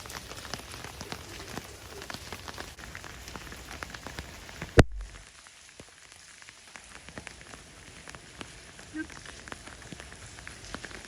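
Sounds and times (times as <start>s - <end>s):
rain drops ticking: 0.0s - 11.0s.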